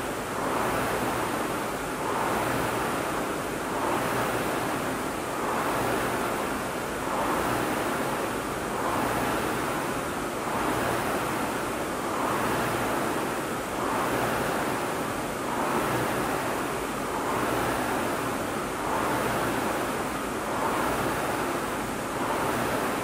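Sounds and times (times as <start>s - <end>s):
rowing machine flywheel whooshing: 0.0s - 23.0s.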